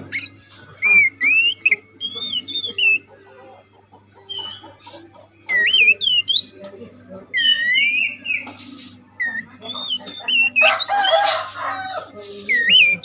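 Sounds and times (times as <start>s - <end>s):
bird whistling song: 0.0s - 3.6s, 4.2s - 6.6s, 7.3s - 13.0s.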